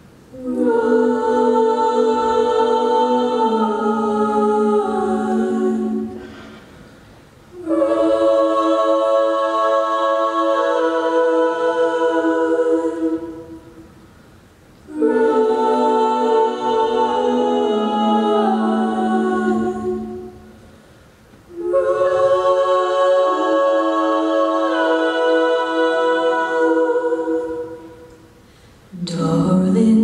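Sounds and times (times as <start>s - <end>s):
female a cappella group singing: 0.3s - 14.0s, 14.8s - 20.8s, 21.4s - 30.0s.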